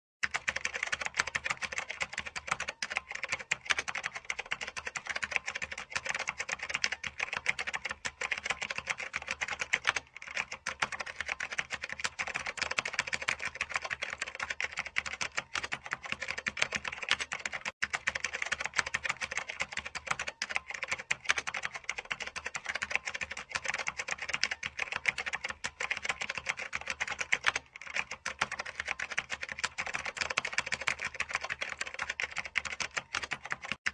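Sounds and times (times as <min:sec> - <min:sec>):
fast keyboard typing: 0:00.2 - 0:33.9.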